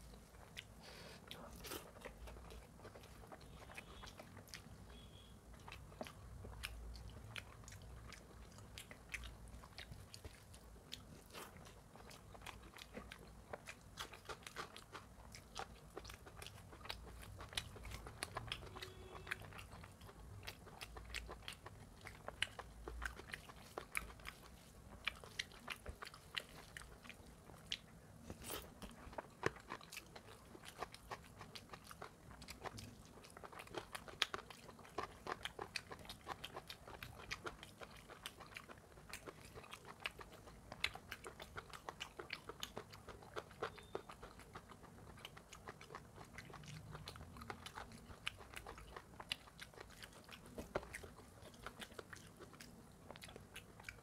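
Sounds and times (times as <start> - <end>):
wet chewing and mouth sounds: 0.0 - 54.0.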